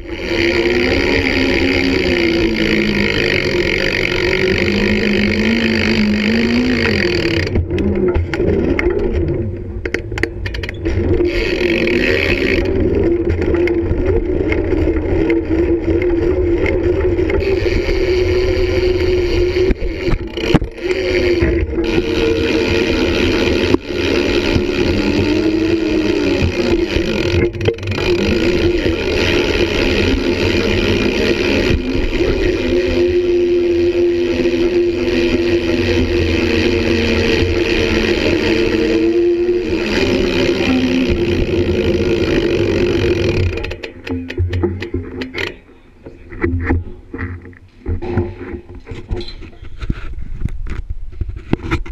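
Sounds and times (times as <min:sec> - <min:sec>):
wheels rolling on concrete: 0:00.0 - 0:51.9.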